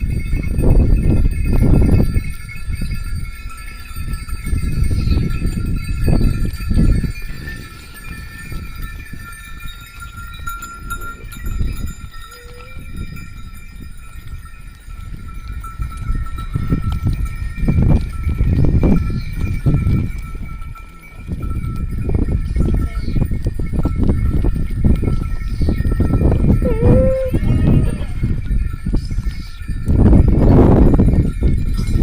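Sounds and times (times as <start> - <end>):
sheep and goat bells ringing: 0.0 - 32.0.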